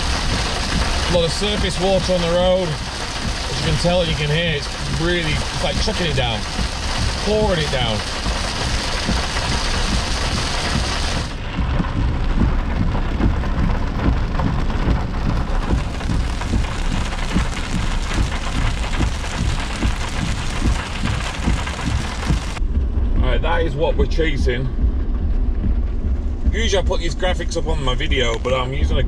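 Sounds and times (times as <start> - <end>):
heavy rain on a car: 0.0 - 22.6, 26.1 - 29.0.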